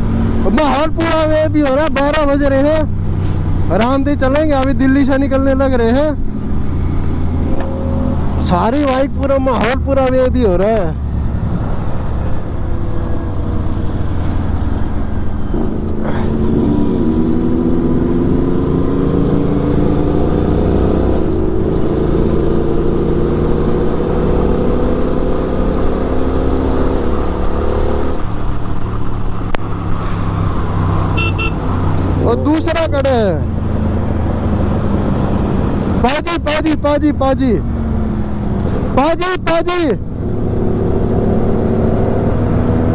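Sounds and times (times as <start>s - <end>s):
motorcycle engine under way: 0.0s - 39.1s, 40.0s - 42.9s.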